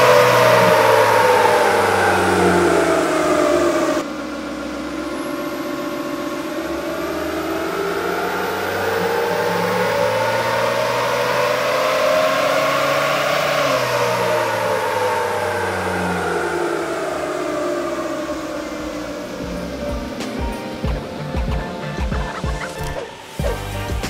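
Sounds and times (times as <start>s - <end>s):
diesel engine revving under load: 0.0s - 24.0s
faint high whine: 0.0s - 24.0s.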